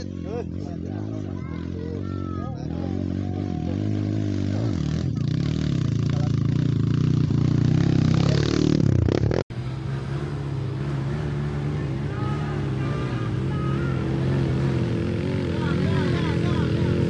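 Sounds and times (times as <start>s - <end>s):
dirt bike engine revving: 0.0s - 17.0s
distant dirt bike engines: 0.0s - 17.0s.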